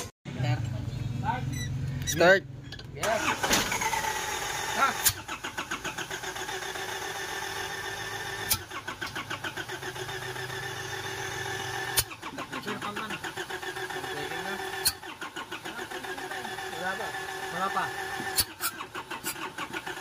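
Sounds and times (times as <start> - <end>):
starter motor cranking diesel engine: 3.0 - 20.0.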